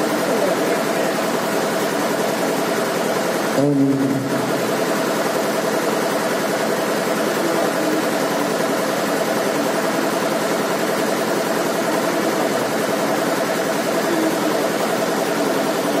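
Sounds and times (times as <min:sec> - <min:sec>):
steady mechanical drone: 0:00.0 - 0:16.0.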